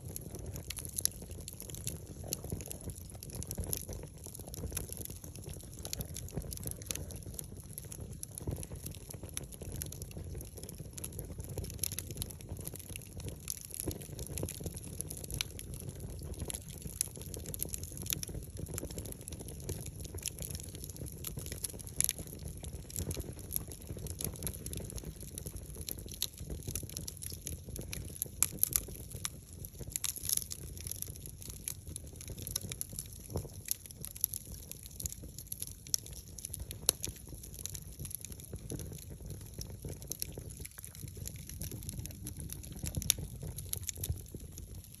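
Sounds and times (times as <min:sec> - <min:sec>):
burning wood crackling and popping: 0:00.0 - 0:45.0
fire rumbling: 0:00.0 - 0:45.0.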